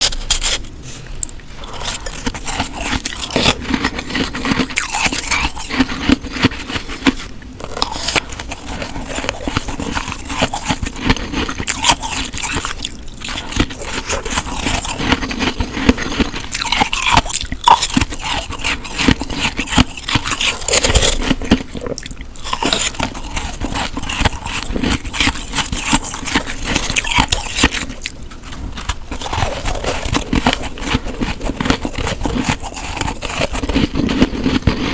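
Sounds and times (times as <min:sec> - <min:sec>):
snow being chewed crunching: 0:01.6 - 0:34.9.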